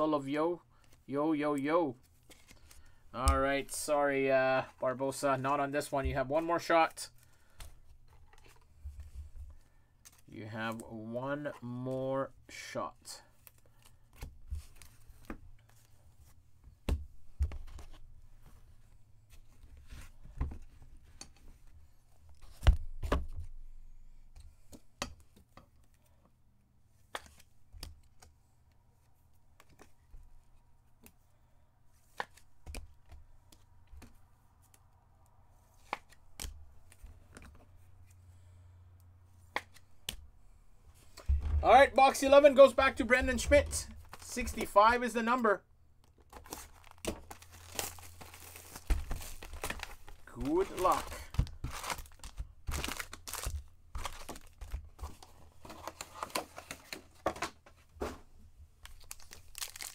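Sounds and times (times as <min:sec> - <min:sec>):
cards and packaging handled: 0:00.6 - 0:04.0, 0:04.6 - 0:59.9.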